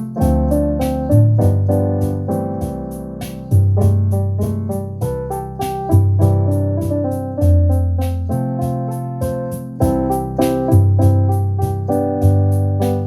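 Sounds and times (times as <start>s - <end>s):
electric keyboard chords: 0.0s - 13.0s
ticking beat: 0.0s - 13.0s.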